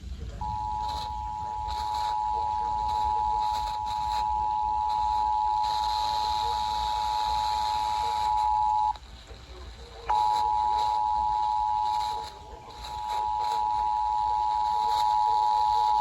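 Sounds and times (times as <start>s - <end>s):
radio hiss: 0.0s - 16.0s
steady alarm tone: 0.4s - 9.0s, 10.1s - 16.0s.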